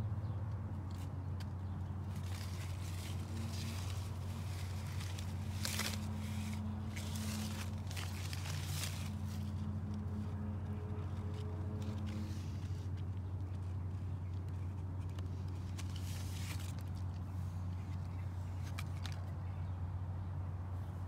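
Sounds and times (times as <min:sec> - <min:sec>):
rustling among leaves: 0:00.8 - 0:19.7.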